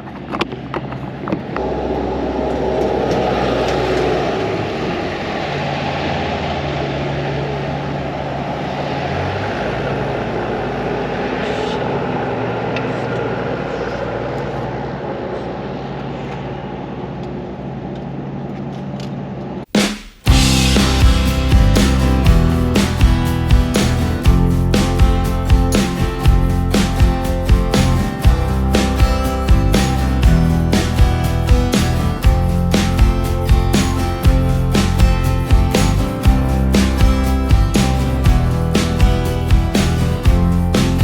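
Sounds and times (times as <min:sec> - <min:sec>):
vehicle engine drone: 0:00.0 - 0:19.7, 0:20.3 - 0:41.0
tyre and road noise: 0:00.0 - 0:41.0.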